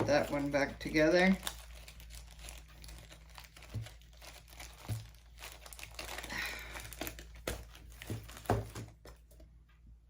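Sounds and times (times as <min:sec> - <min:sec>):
packaging crinkling: 0:00.0 - 0:09.3.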